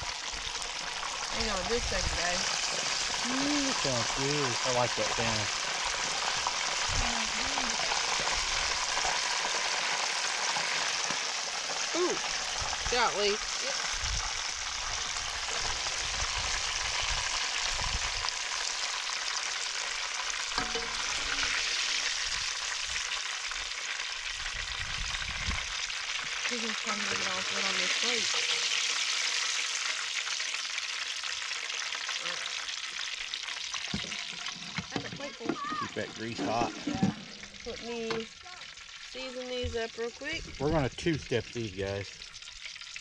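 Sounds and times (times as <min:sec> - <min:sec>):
fish sizzling in hot grease: 0:00.0 - 0:40.6, 0:41.8 - 0:43.0.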